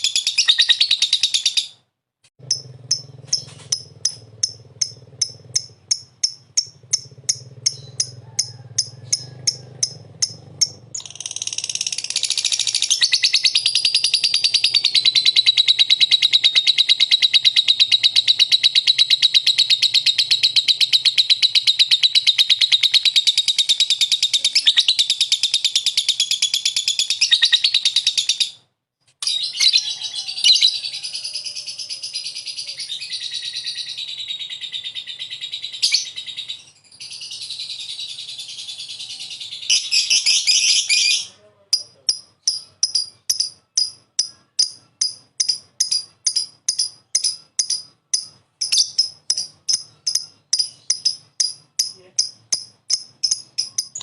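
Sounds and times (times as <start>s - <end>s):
lovebird chirps and trill: 0.0s - 1.8s, 2.4s - 54.0s.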